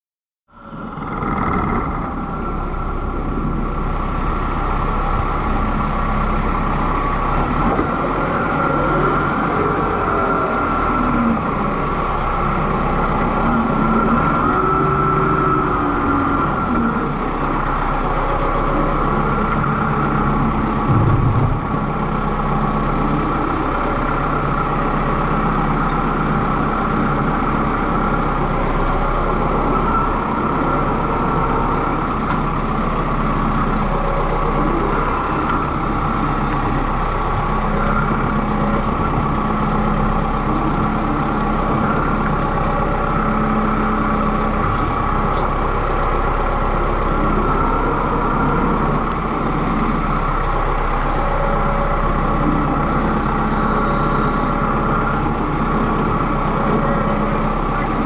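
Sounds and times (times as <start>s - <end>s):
tractor diesel engine running: 0.5s - 58.0s.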